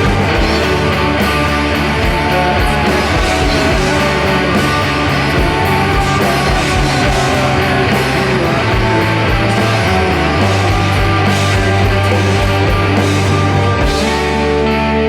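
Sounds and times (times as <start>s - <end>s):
bass line: 0.0s - 15.0s
distorted electric guitars: 0.0s - 15.0s.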